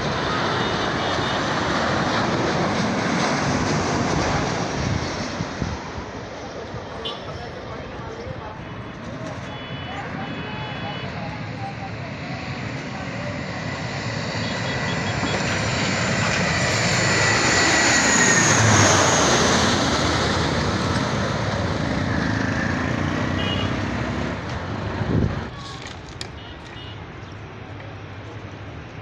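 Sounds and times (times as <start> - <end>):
propeller plane flying overhead: 0.0 - 29.0.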